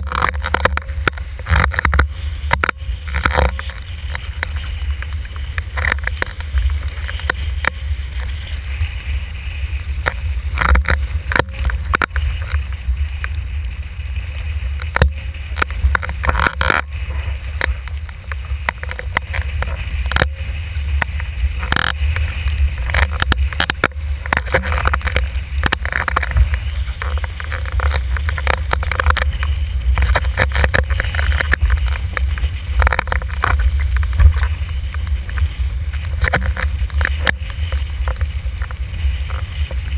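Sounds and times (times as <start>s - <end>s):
water slapping and splashing: 0.0s - 39.9s.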